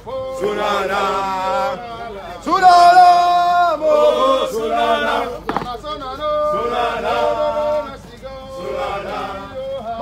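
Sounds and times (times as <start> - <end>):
people singing a marching song: 0.0 - 10.0.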